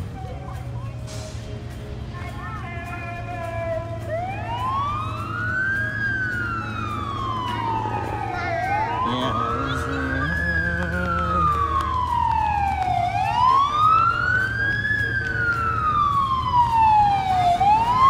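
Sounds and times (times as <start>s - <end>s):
fire truck siren wailing: 0.0s - 18.0s.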